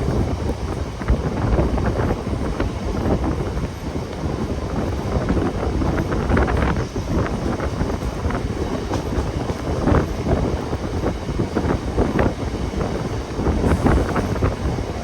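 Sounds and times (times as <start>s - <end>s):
train wheels rumbling on track: 0.0s - 15.0s
wind buffeting microphone: 0.0s - 15.0s.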